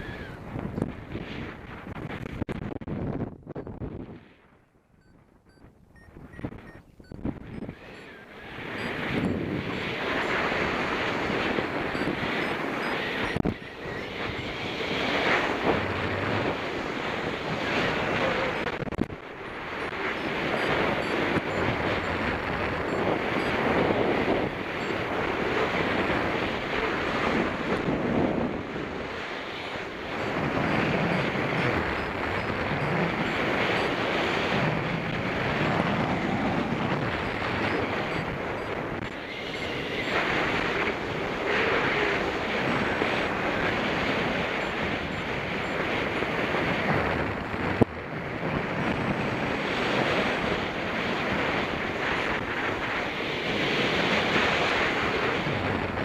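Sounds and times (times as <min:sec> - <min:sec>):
strong wind on microphone: 0:00.0 - 0:56.0.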